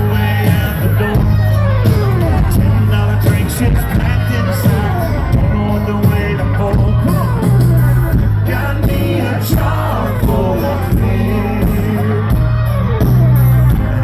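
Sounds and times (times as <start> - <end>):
heavy bass: 0.0 - 14.0
live country rock band: 0.0 - 14.0.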